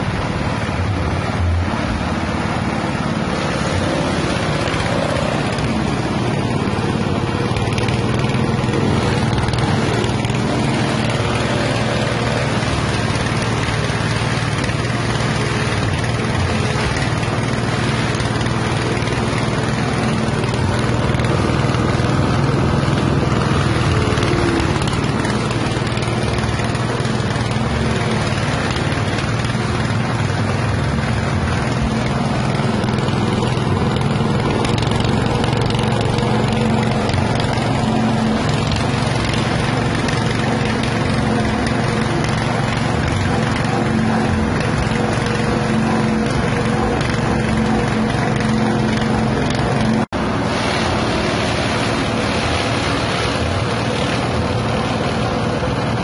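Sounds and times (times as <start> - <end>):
petrol engine chopper shredding: 0.0 - 56.0.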